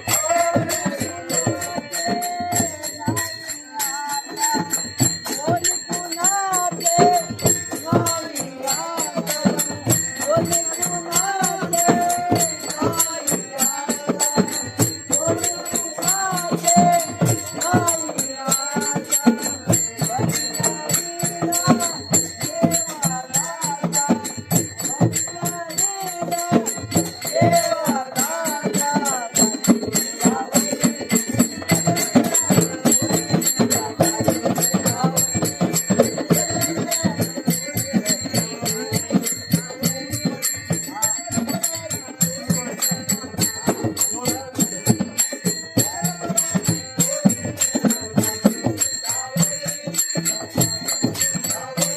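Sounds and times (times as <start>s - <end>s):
drum beat: 0.0s - 51.9s
jingling metal percussion: 0.0s - 51.9s.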